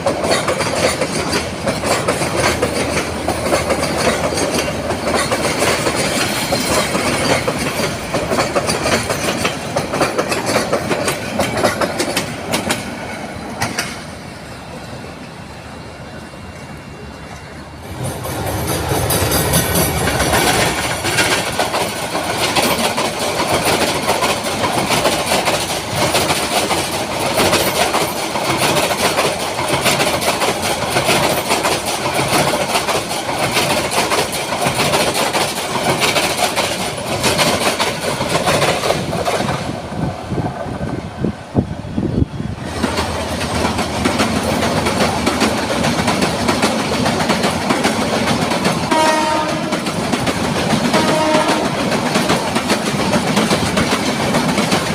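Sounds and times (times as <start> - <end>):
train rumbling clickety-clack: 0.0 - 54.9.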